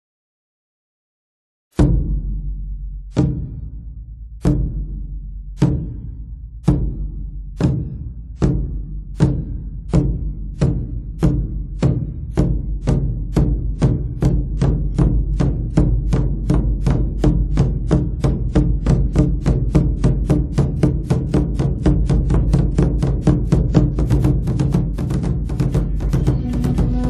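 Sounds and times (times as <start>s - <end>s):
sharp percussion strikes: 1.8s - 27.0s
steady low drone: 2.1s - 27.0s.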